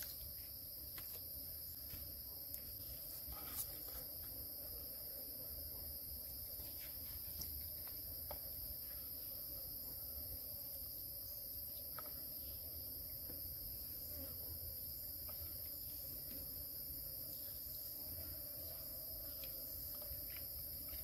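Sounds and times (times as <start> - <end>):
insect chirring: 0.0 - 4.8, 5.4 - 21.0.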